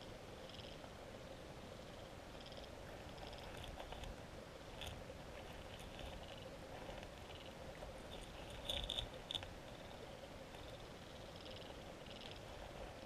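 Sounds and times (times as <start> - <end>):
underwater low hum: 0.0 - 13.0.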